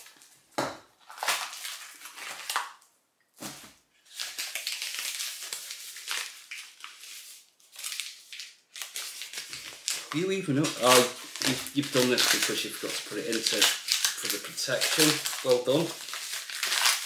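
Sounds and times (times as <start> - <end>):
packaging rustling and crinkling: 1.0 - 2.8, 3.4 - 17.0.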